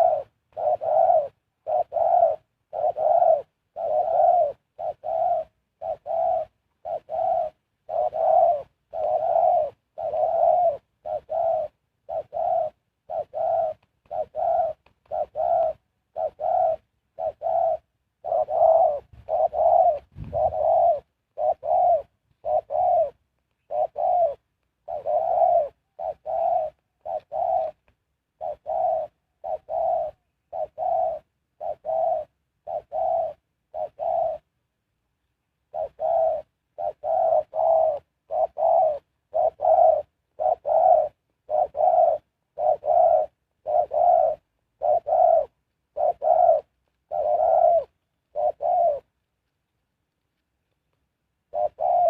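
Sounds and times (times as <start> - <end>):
dove cooing: 0.0 - 52.0.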